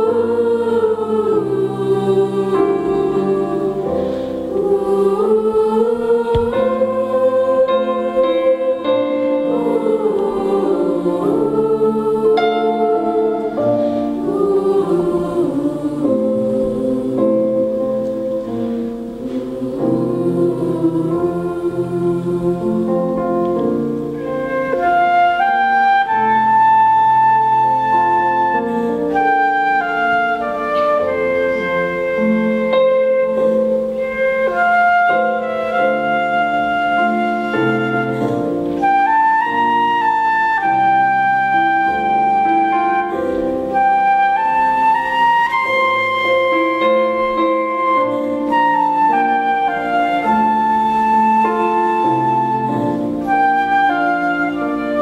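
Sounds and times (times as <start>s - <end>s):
ensemble playing slow music: 0.0s - 55.0s
flutes playing melody: 0.0s - 55.0s.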